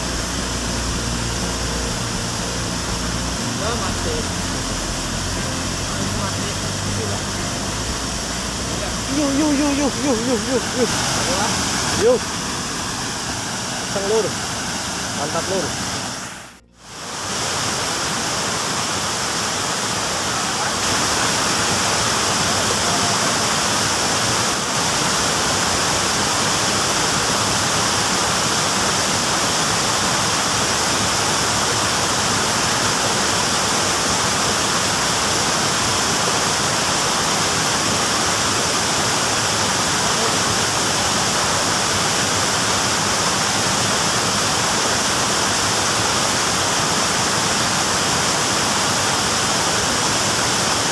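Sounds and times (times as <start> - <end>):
flowing river water: 0.0 - 50.9.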